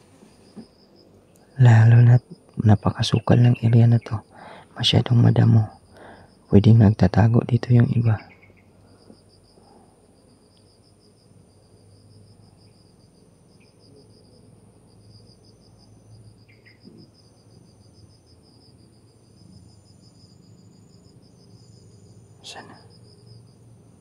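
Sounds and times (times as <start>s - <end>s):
insects chirping trill: 0.0s - 24.0s.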